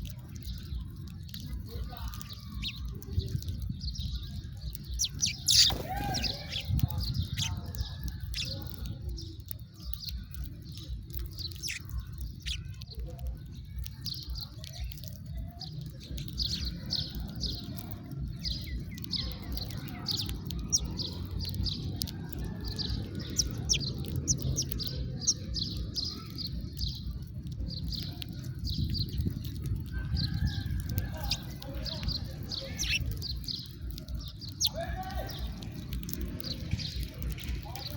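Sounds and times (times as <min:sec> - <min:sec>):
sparrows chirping: 0:00.0 - 0:37.9
steady low rumble: 0:00.0 - 0:37.9.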